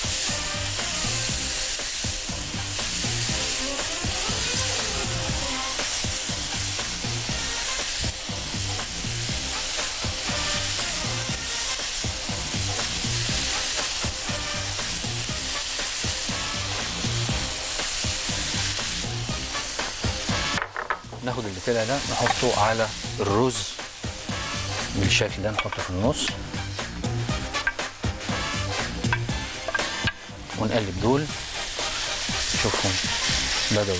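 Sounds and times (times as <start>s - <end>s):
squid sizzling on a grill: 0.0s - 33.9s.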